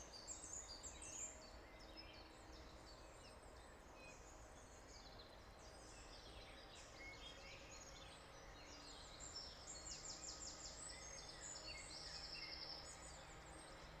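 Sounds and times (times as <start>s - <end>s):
faint bird chorus: 0.0s - 14.0s.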